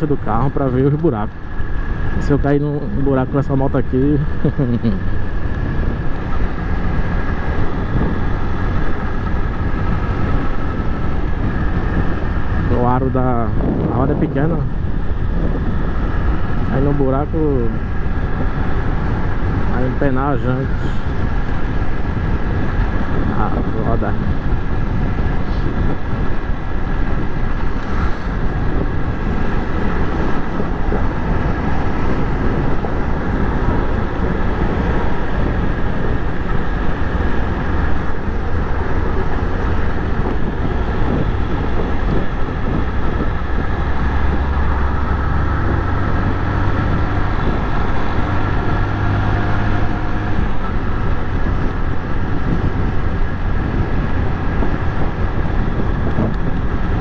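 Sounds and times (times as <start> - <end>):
deep low rumble: 0.0 - 57.0
motorcycle engine cruising: 0.0 - 57.0
wind noise: 0.0 - 57.0.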